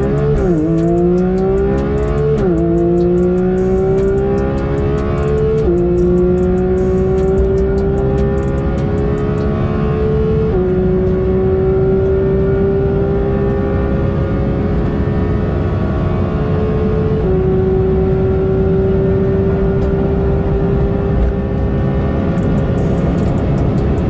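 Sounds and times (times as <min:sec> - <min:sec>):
car engine at full throttle: 0:00.0 - 0:24.0
wind and road noise: 0:00.0 - 0:24.0.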